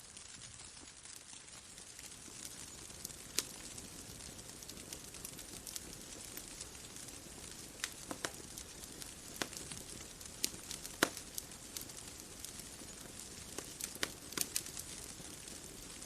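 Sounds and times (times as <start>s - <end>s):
bonfire crackling: 0.0s - 16.0s
soft steady hiss: 0.0s - 16.0s.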